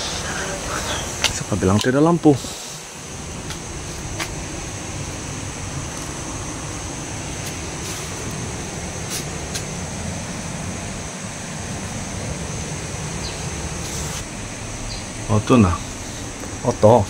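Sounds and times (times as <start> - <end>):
high-pitched insect drone: 0.0 - 17.0
steady rushing noise: 0.0 - 17.0.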